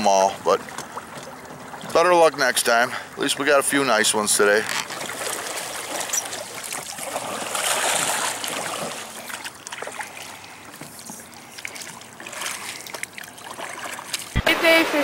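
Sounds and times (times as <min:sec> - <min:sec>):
water lapping around boat: 0:00.0 - 0:15.0.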